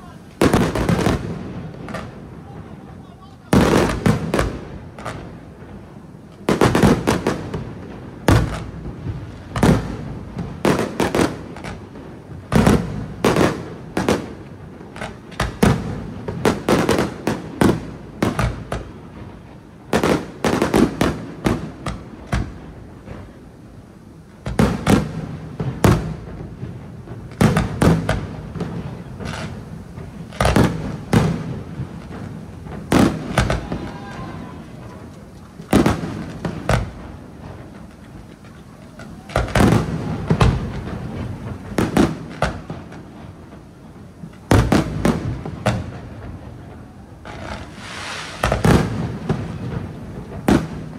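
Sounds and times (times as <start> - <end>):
firework shells booming: 0.0 - 23.4, 24.4 - 50.9.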